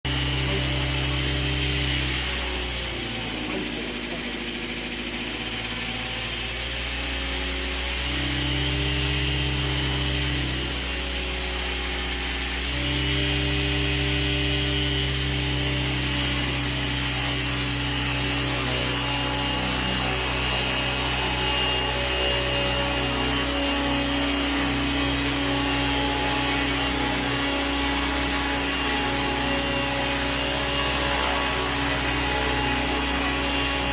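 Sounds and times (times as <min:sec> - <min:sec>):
helicopter rotor: 0:00.1 - 0:33.9
motor and gear whine: 0:00.1 - 0:33.9.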